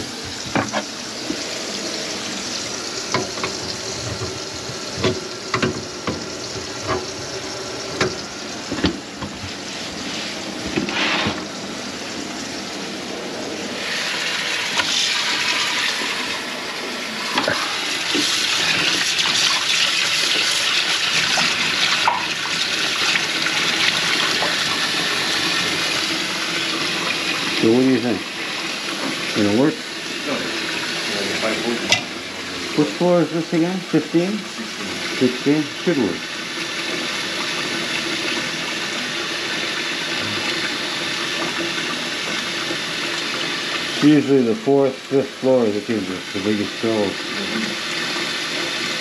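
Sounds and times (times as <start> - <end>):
water running in sink: 0.0 - 49.0.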